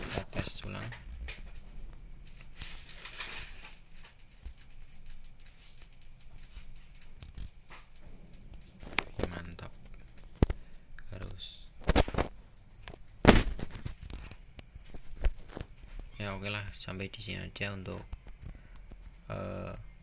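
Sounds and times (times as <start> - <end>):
rustling and crinkling: 0.0 - 16.9.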